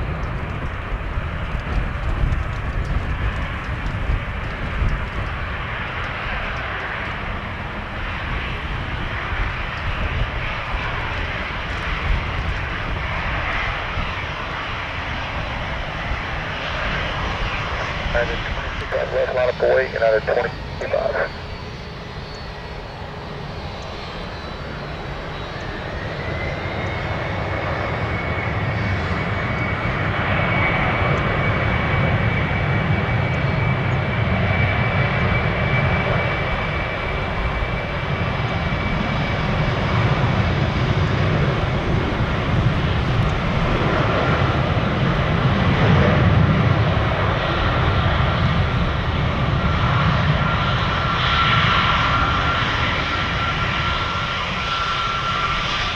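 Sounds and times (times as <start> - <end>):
jet engines whining: 0.0 - 55.9
lower engine whine: 0.0 - 55.9.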